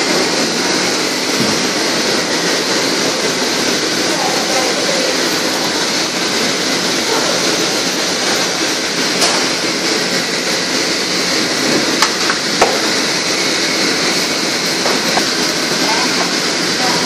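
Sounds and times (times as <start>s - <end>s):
gas burner roaring: 0.0s - 17.0s.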